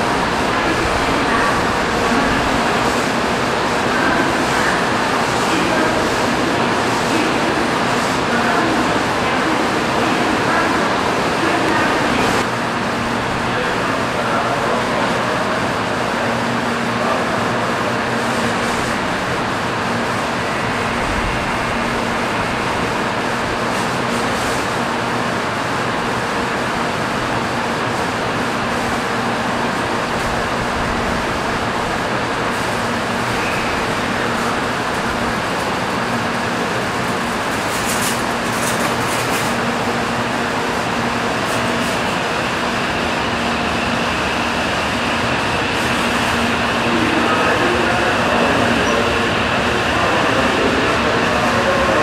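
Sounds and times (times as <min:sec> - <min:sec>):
train humming: 0:00.0 - 0:52.0
train starting to roll: 0:00.0 - 0:52.0.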